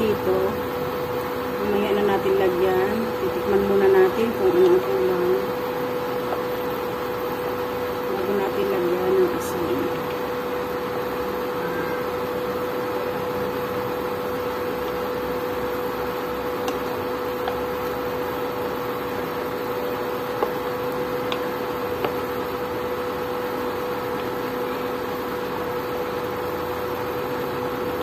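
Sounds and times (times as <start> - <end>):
induction cooktop humming: 0.0 - 28.0.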